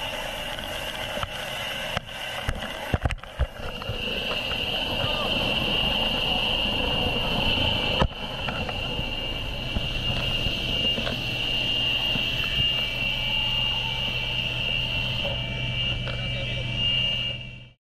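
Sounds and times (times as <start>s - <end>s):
rushing wind: 0.0s - 17.5s
helicopter turbine whine: 0.0s - 17.8s
rotor low hum: 0.0s - 17.8s.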